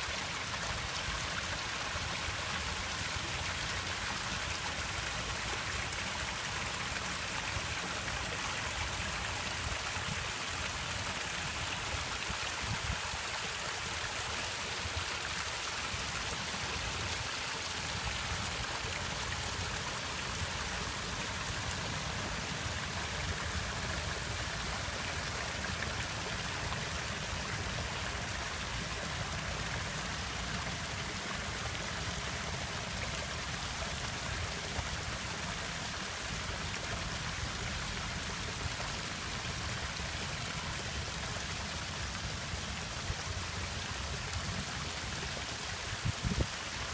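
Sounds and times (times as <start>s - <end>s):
stream water splashing over rocks: 0.0s - 46.9s.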